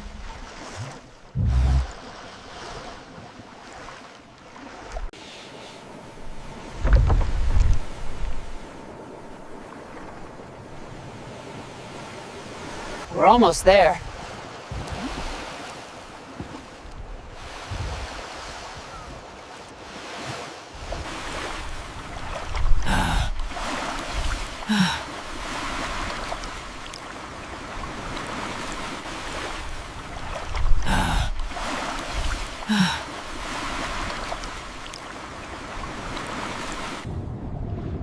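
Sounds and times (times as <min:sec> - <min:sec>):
rushing water and waves: 0:00.0 - 0:38.0.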